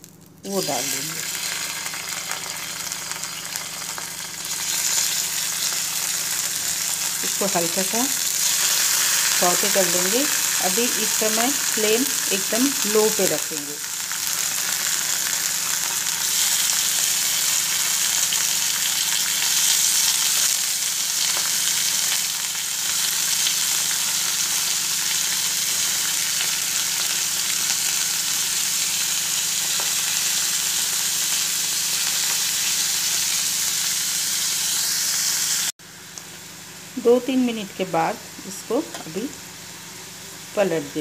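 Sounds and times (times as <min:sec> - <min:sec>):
chicken sizzling in a pan: 0:00.0 - 0:41.0.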